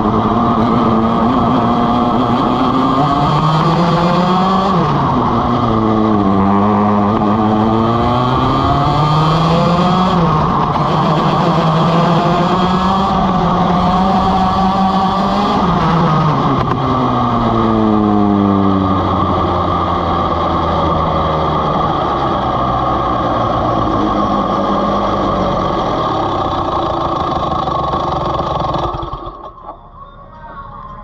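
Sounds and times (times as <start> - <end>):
kart engine winding down: 0.0 - 31.0.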